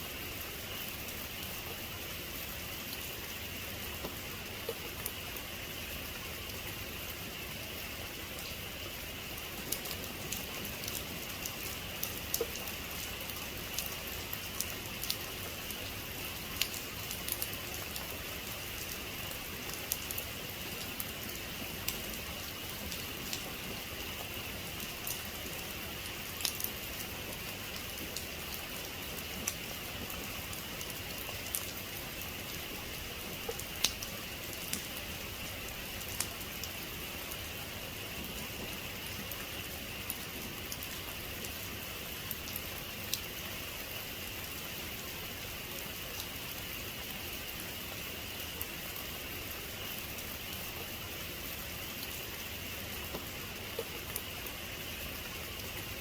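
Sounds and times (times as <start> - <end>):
steady rain falling: 0.0 - 56.0
raindrops ticking on a surface: 0.1 - 56.0.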